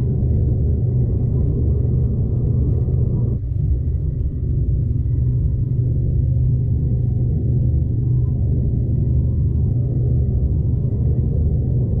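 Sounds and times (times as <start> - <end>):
diesel train rumble inside carriage: 0.0 - 12.0.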